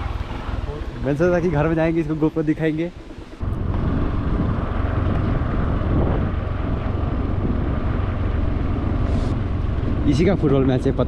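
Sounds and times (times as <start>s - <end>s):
moving vehicle rumble: 0.0s - 11.0s
wind buffeting microphone: 0.0s - 11.0s.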